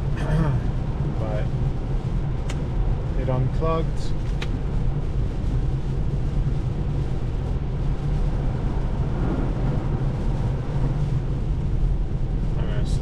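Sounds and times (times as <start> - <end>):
road and tyre noise in car: 0.0 - 13.0.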